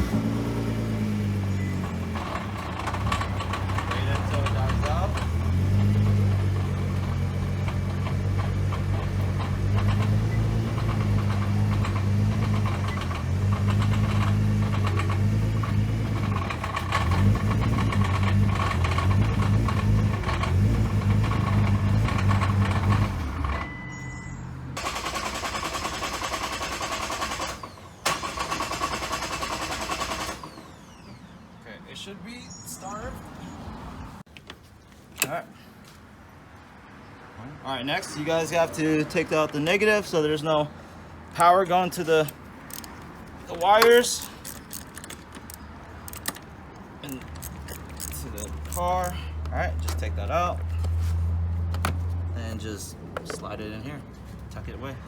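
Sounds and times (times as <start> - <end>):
car engine idling and stalling: 0.0 - 31.8, 38.0 - 55.0.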